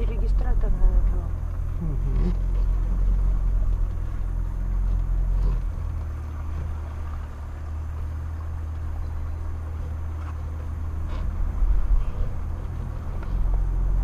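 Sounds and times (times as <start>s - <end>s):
car engine drone from cabin: 0.0s - 14.0s.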